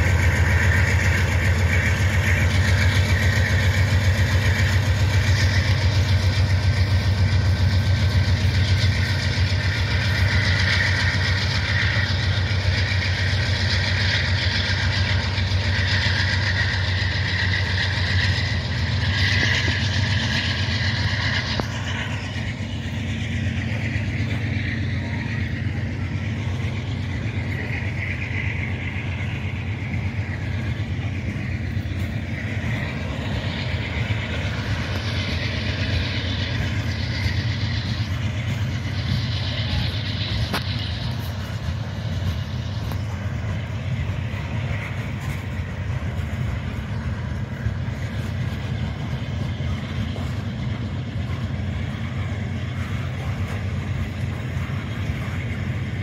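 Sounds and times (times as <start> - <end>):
freight train wheels rumbling: 0.0 - 56.0
high whine: 0.0 - 56.0.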